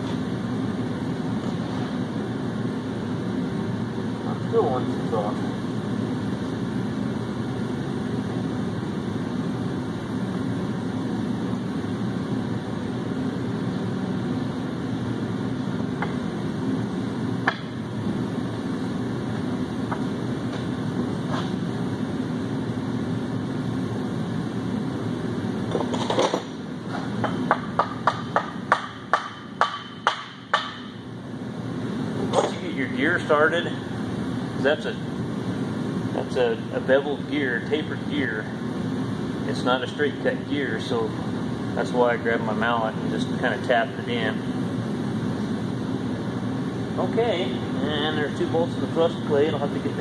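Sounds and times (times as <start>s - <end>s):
fan-like hum: 0.0s - 50.0s.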